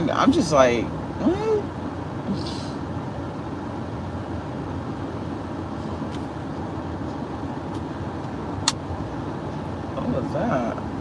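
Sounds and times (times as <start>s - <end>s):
vehicle driving rumble: 0.0s - 11.0s.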